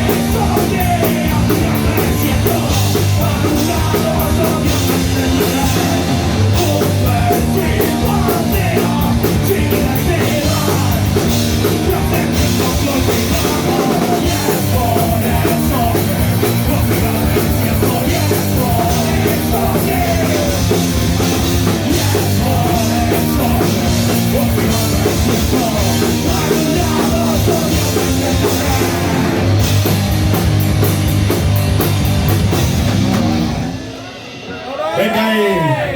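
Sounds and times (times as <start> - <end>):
sung and shouted vocals: 0.0 - 20.9, 21.5 - 29.5
distorted electric guitars: 0.0 - 34.6
pounding drum kit: 0.0 - 35.9
punk rock band playing: 0.0 - 35.9.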